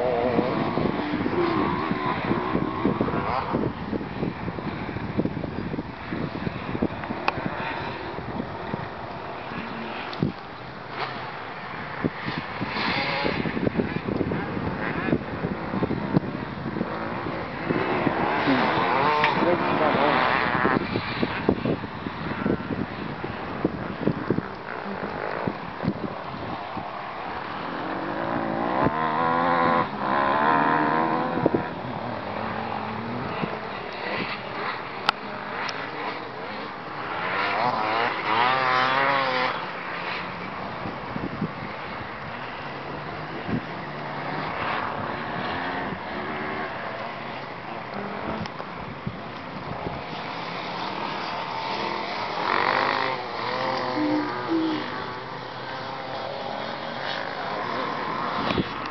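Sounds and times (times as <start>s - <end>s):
distant dirt bike revving: 0.0s - 40.6s, 41.7s - 58.9s
rush of noise: 0.0s - 58.9s.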